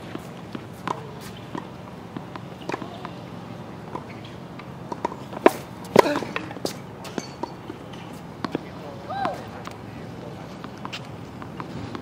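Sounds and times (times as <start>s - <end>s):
tennis balls bouncing on court: 0.0s - 12.0s
tennis balls struck by rackets: 0.0s - 12.0s.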